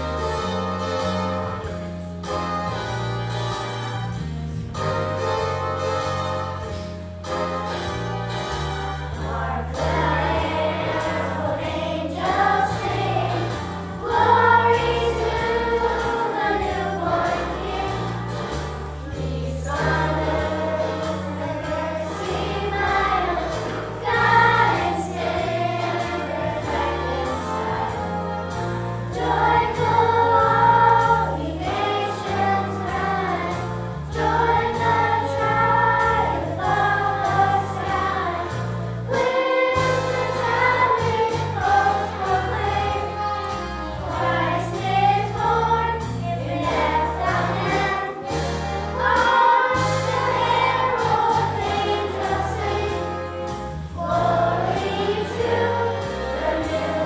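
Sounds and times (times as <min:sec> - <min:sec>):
instrumental accompaniment with bass: 0:00.0 - 0:57.0
children's choir singing: 0:05.1 - 0:57.0.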